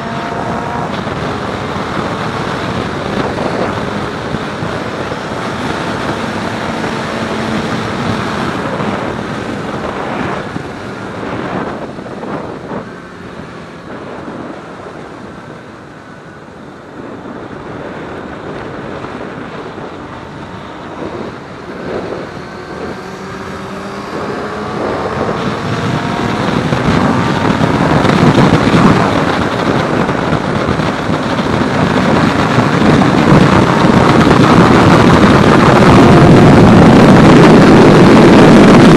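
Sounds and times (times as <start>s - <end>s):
motorcycle engine: 0.0s - 38.9s
wind noise on microphone: 0.0s - 38.9s.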